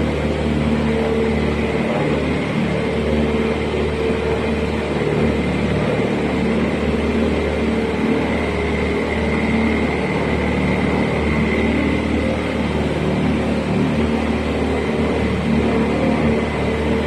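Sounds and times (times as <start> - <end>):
motorboat engine running: 0.0 - 17.0
rushing water and air: 0.0 - 17.0.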